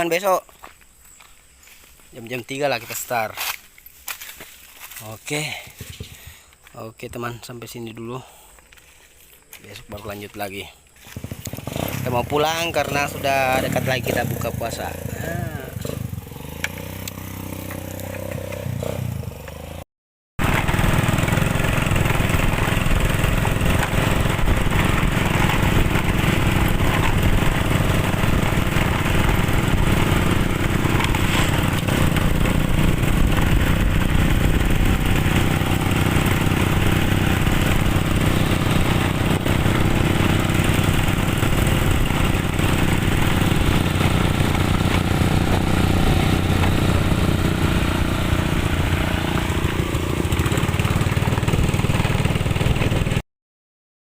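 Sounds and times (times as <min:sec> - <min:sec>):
motorcycle engine running: 0:08.8 - 0:19.8, 0:20.4 - 0:53.2.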